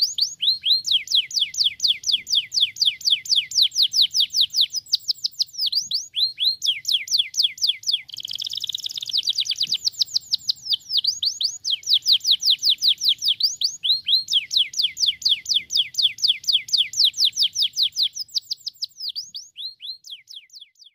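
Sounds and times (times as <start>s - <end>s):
canary singing: 0.0s - 20.9s.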